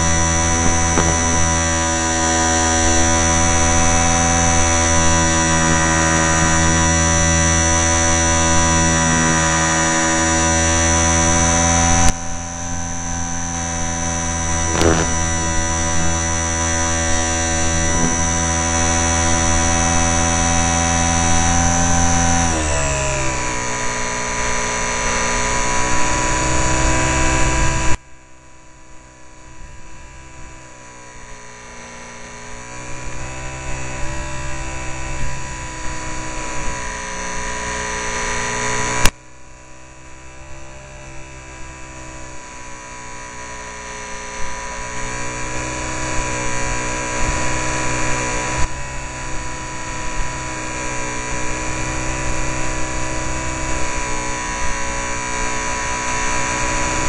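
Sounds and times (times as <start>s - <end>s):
model airplane motor whine: 0.0s - 57.0s.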